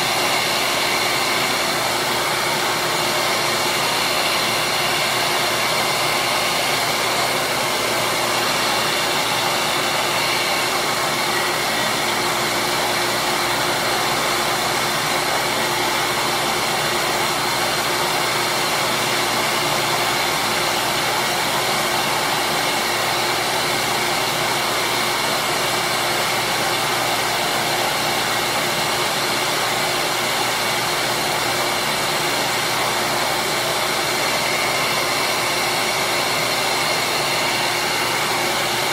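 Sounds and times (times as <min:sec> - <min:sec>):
disc sander whirring: 0:00.0 - 0:38.9.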